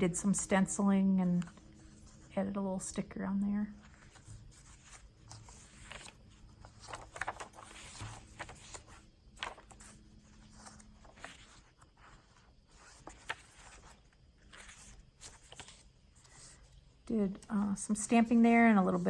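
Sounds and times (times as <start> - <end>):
paper pages rustling: 3.6 - 19.0.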